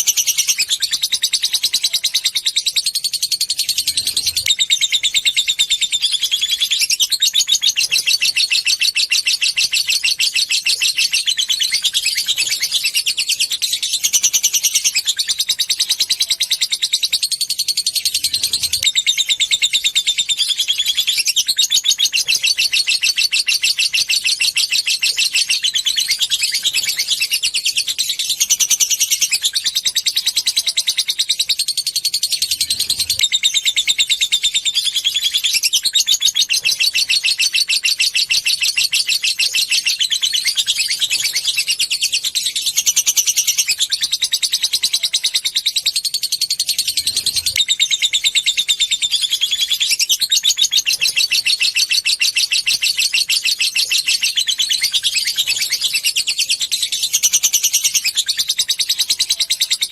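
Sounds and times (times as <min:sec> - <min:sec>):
lovebird trilling: 0:00.0 - 0:59.9.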